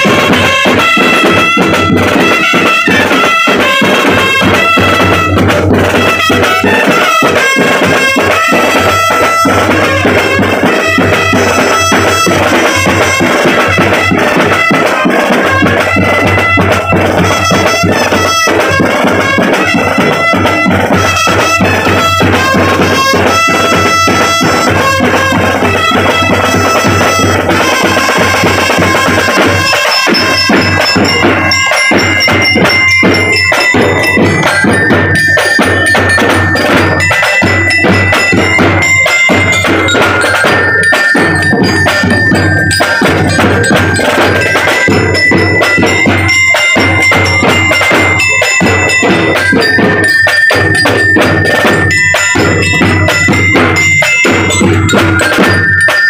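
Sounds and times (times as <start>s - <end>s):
bugle melody: 0.0s - 54.5s
snare and bass drums: 0.0s - 56.0s.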